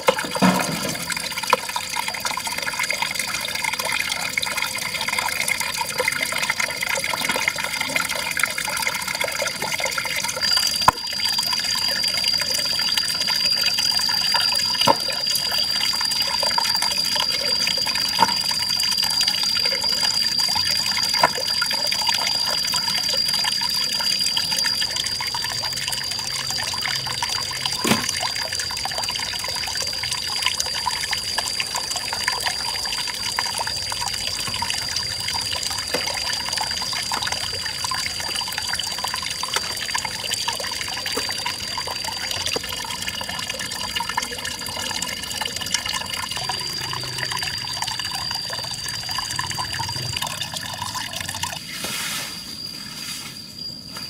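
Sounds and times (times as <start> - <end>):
water running and splashing: 0.0 - 52.2.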